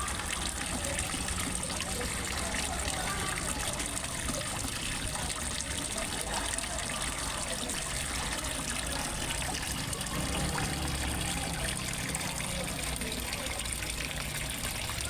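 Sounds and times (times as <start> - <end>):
water trickling into pond: 0.0 - 15.0.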